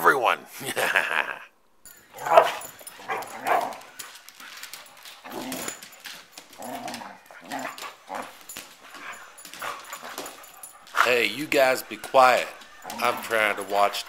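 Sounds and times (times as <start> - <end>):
dogs barking and yipping: 1.9 - 14.0.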